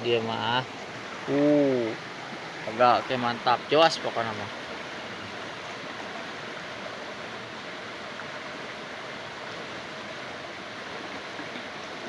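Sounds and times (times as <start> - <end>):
water flowing over rocks: 0.0 - 12.0.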